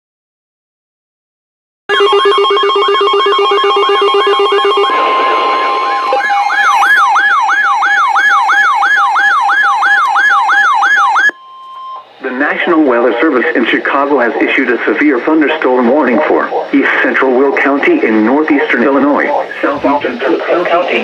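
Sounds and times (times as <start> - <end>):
warbling alarm siren tone: 1.9 - 20.0
steady beeping tones: 1.9 - 21.0.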